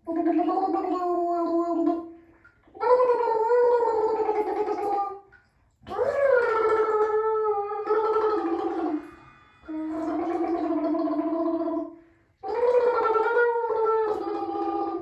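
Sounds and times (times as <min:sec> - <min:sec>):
person making throaty warbling sounds: 0:00.0 - 0:02.0, 0:02.8 - 0:05.2, 0:05.9 - 0:09.0, 0:09.7 - 0:15.0.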